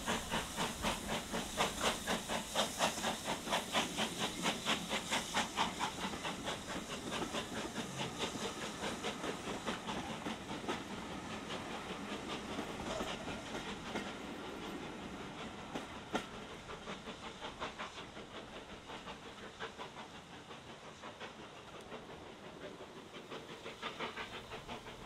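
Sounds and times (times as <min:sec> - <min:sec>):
train wheels clicking over rail joints: 0:00.0 - 0:25.0.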